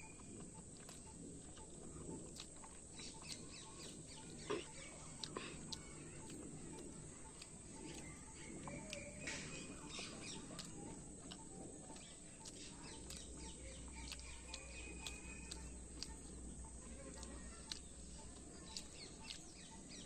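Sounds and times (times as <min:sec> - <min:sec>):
birds chirping faintly: 0:00.0 - 0:20.0.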